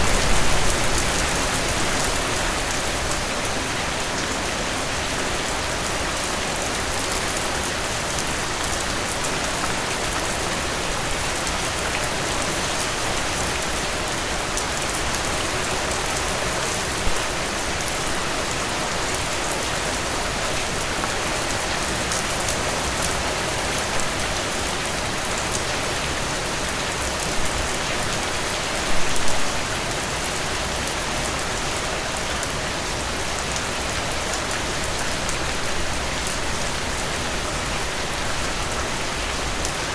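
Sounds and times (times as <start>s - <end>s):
heavy rain falling: 0.0s - 39.9s
rain splashes: 0.0s - 39.9s.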